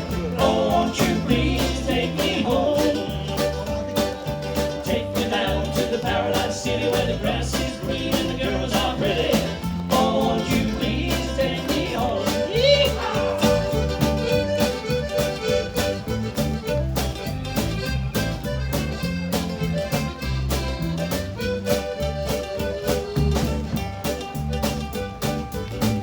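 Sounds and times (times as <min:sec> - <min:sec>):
bass: 0:00.0 - 0:26.0
drums: 0:00.0 - 0:26.0
lead melody: 0:00.0 - 0:26.0.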